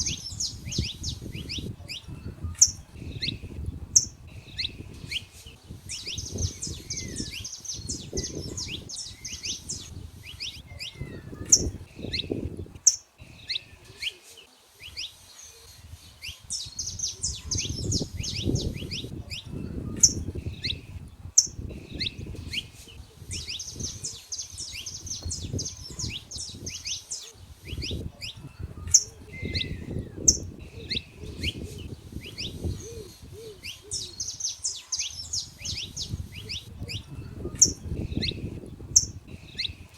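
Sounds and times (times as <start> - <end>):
finches chirping and trilling: 0.0 - 39.9.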